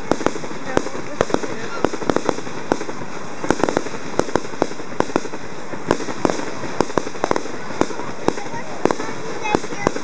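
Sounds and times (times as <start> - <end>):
fireworks popping and banging: 0.0 - 10.0
steady hiss: 0.0 - 10.0.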